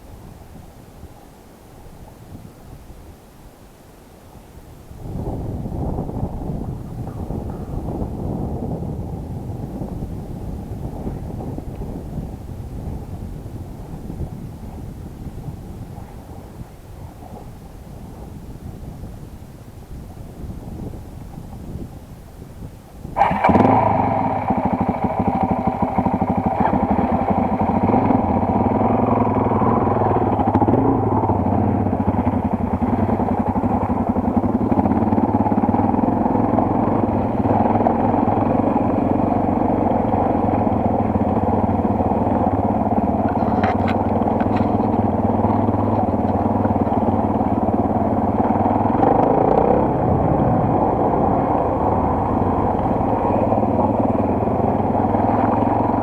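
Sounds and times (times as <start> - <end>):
motorcycle engine running: 4.9 - 56.0.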